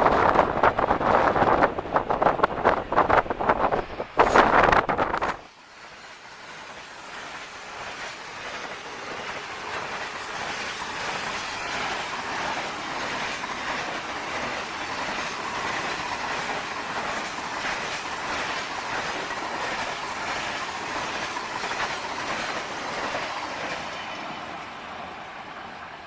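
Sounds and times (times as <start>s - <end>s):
diesel train running past: 0.0s - 26.0s.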